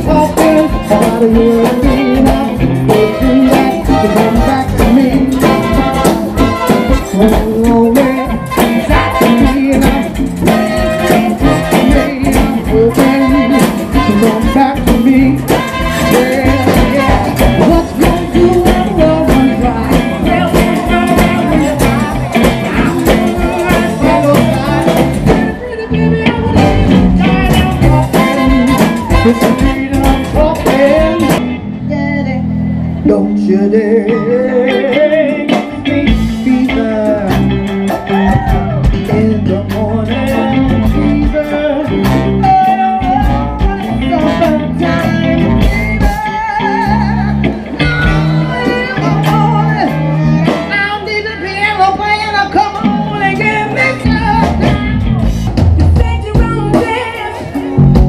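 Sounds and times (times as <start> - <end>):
live funk band playing: 0.0 - 58.0
person singing: 0.0 - 58.0.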